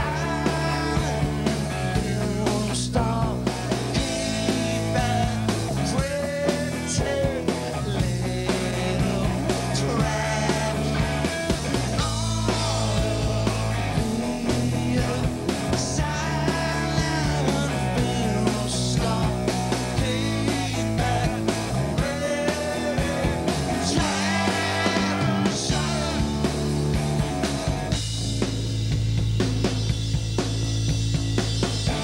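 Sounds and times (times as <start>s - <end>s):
man singing: 0.0s - 11.3s, 11.9s - 26.7s
drums: 0.0s - 32.0s
electric guitars: 0.0s - 32.0s.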